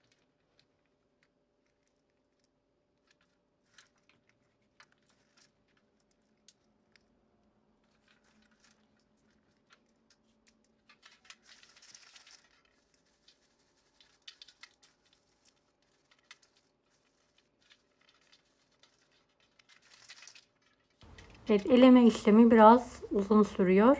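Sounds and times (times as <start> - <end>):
dry crumbles rustling in sieve: 0.0 - 7.0, 7.8 - 23.9.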